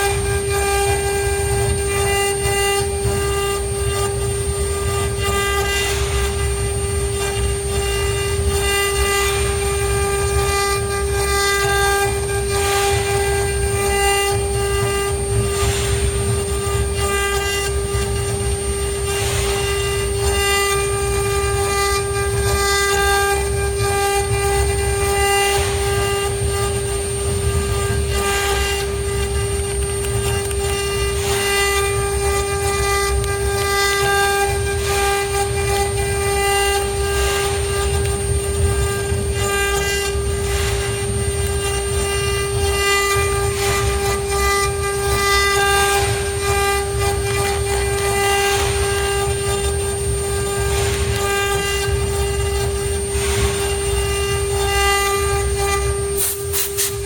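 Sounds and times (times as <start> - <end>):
low machine rumble: 0.0 - 57.0
router spindle whine: 0.0 - 57.0.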